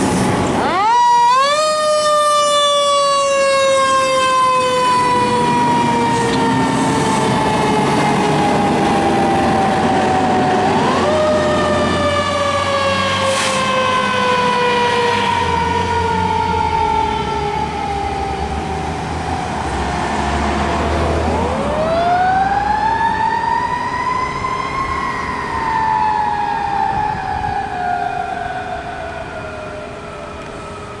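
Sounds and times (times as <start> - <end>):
fire engine siren wailing: 0.0 - 31.0.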